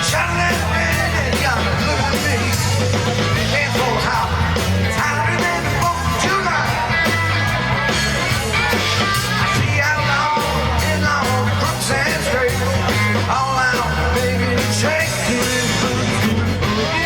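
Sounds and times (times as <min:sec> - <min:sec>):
bass notes: 0:00.0 - 0:17.0
drums: 0:00.0 - 0:17.0
person singing: 0:00.0 - 0:17.0
rock band playing: 0:00.0 - 0:17.0.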